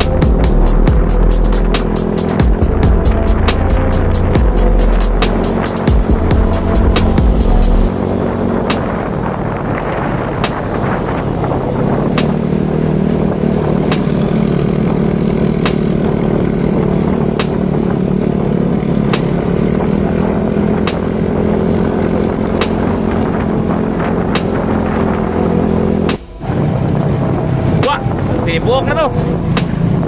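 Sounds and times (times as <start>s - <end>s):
motor scooter engine running: 0.0s - 30.0s.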